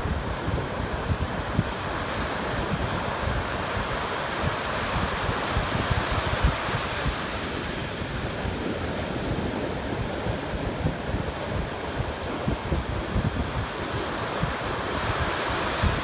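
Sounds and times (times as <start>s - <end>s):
ocean surf washing onto beach: 0.0s - 16.0s
wind gusting on microphone: 0.0s - 16.0s.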